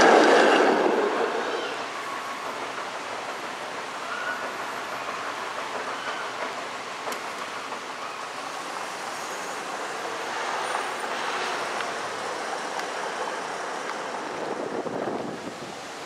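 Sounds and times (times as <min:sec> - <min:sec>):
street traffic: 0:00.0 - 0:16.0
streetcar rolling on rails: 0:00.0 - 0:16.0.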